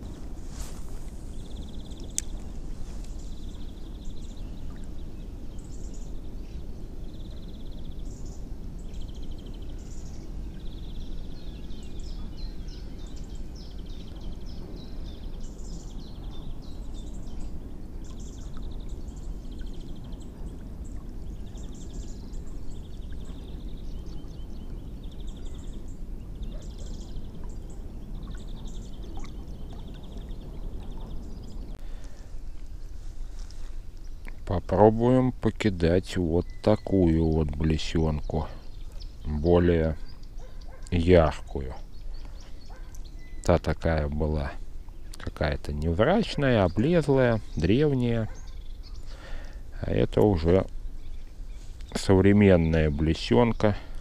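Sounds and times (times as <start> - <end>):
water noise: 0.0 - 54.0
wind: 0.0 - 54.0.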